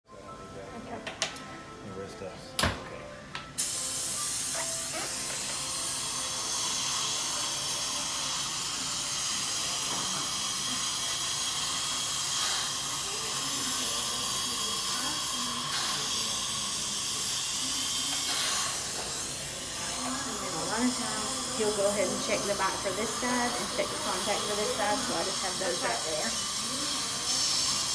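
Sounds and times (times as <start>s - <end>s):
dental equipment hissing: 3.6s - 27.9s.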